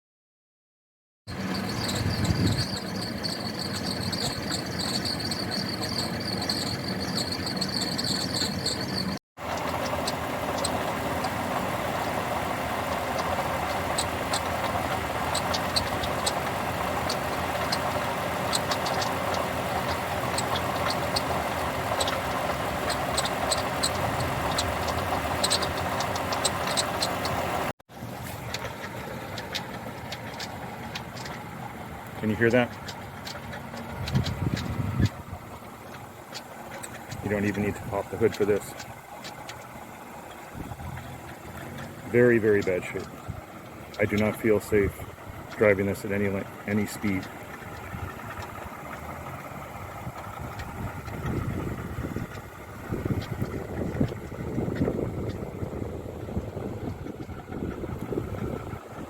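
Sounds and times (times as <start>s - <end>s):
car engine running: 1.3s - 59.0s
engine rattle and ticking: 1.3s - 59.0s.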